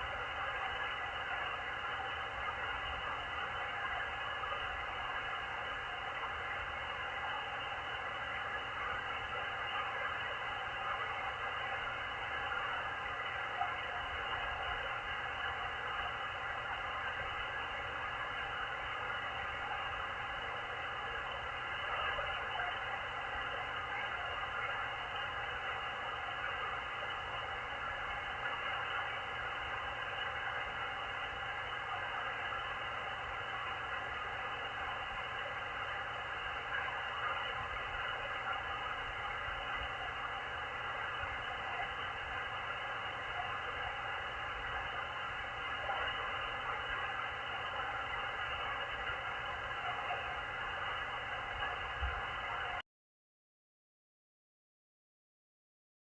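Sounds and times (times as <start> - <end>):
faint steady tone: 0.0 - 52.8
radio static hiss: 0.0 - 52.8.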